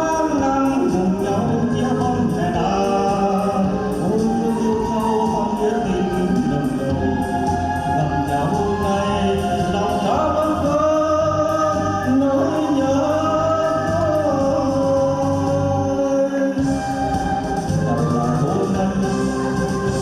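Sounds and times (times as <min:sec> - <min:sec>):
amplified backing music: 0:00.0 - 0:20.0
person singing: 0:00.0 - 0:20.0.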